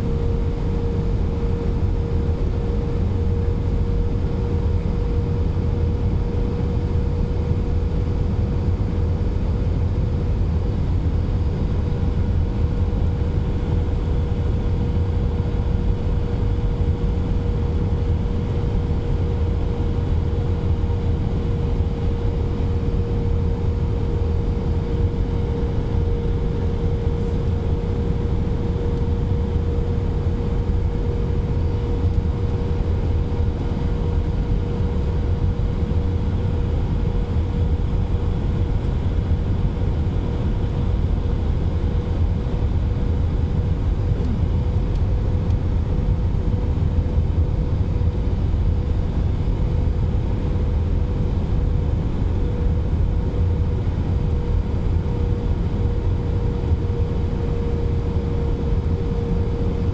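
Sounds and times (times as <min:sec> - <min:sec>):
jet engine rumble: 0:00.0 - 0:59.9
steady cabin hum: 0:00.0 - 0:59.9.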